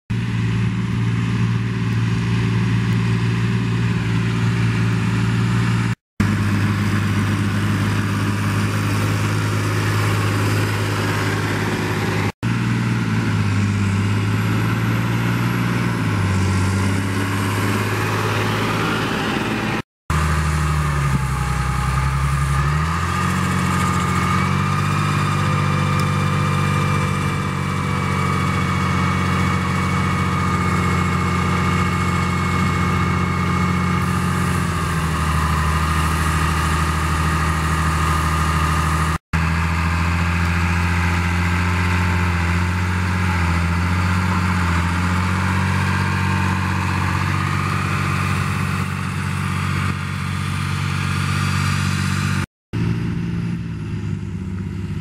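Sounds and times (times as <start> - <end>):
tractor diesel engine under load: 0.1 - 55.0.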